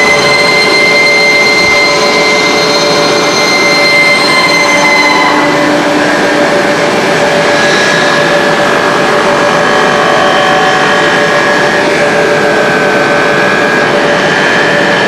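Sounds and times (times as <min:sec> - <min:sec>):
factory machinery din: 0:00.0 - 0:15.0
machine whining tones: 0:00.0 - 0:15.0.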